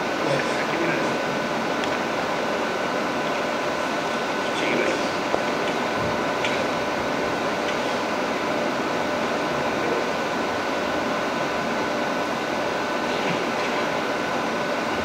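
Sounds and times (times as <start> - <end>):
faint constant hum: 0.0 - 15.0
steady background hiss: 0.0 - 15.0.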